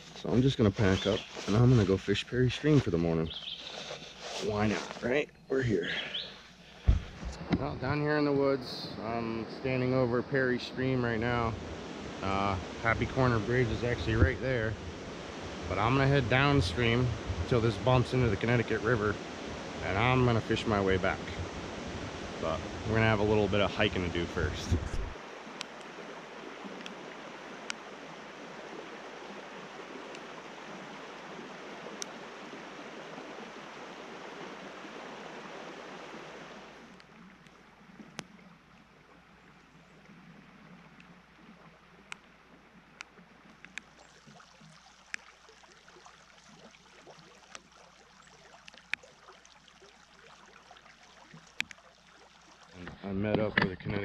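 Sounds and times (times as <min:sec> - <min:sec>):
stream water over rocks: 0:00.0 - 0:54.0.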